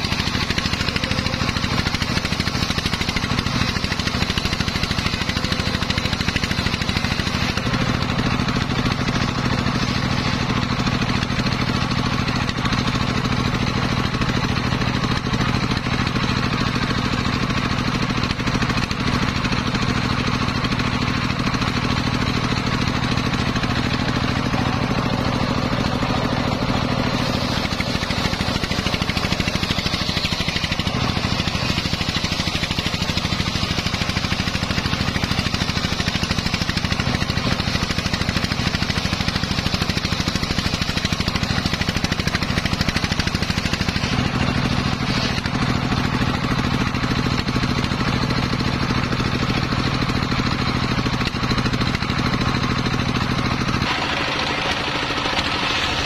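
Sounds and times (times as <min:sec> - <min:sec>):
circular saw cutting log: 0:00.0 - 0:56.0
drive engine running: 0:00.0 - 0:56.0.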